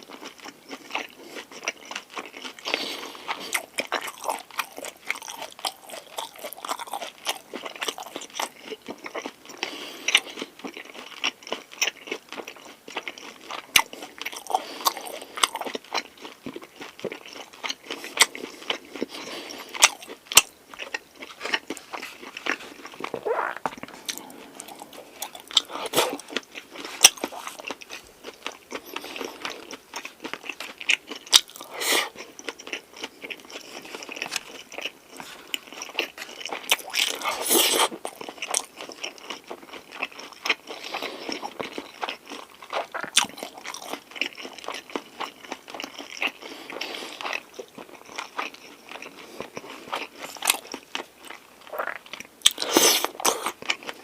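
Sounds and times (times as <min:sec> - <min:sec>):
close chewing with crunches: 0:00.0 - 0:54.0.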